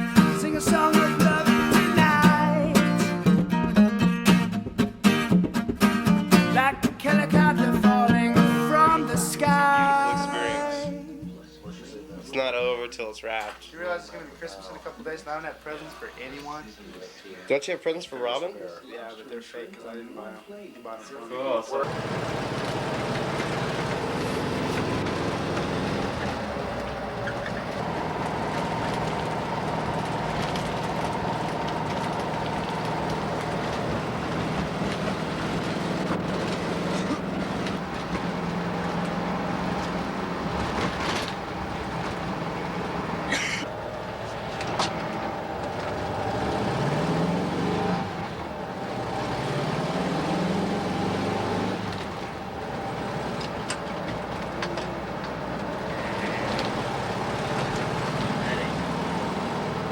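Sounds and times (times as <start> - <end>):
vehicle engine running: 0.0 - 12.5, 21.8 - 59.9.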